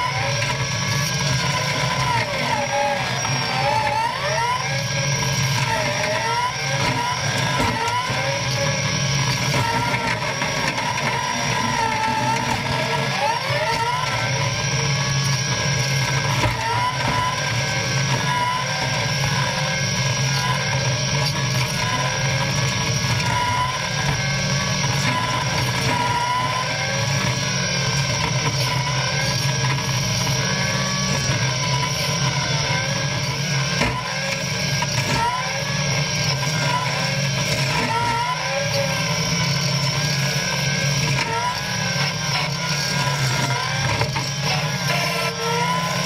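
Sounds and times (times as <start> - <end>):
diesel engine drone: 0.0 - 46.0
hydraulic mower whining: 0.0 - 46.0.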